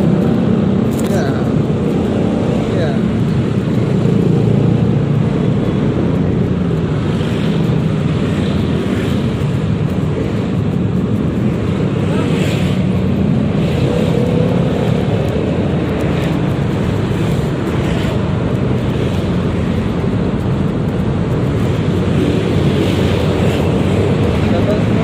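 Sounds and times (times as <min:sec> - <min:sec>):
road and wind noise: 0:00.0 - 0:25.0
scooter engine running: 0:00.0 - 0:25.0.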